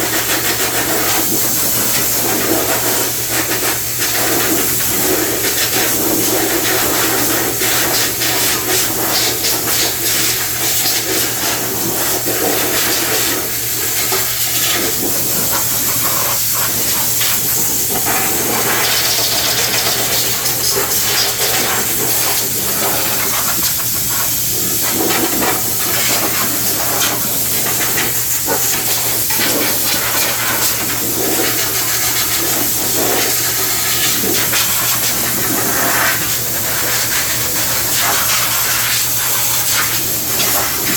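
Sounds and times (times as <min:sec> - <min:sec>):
high-pressure spray hissing: 0:00.0 - 0:40.9.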